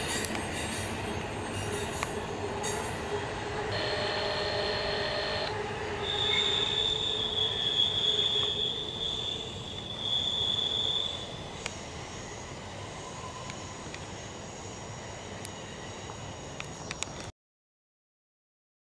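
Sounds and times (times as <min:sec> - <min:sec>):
train wheels squealing on rail: 0:00.0 - 0:16.8
rolling rumble of train cars: 0:00.0 - 0:17.2.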